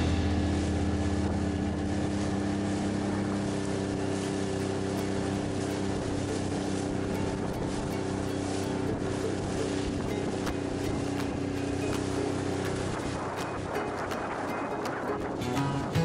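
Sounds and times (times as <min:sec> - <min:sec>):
outboard motor running: 0:00.0 - 0:16.0
rush of wind and water: 0:00.0 - 0:16.0.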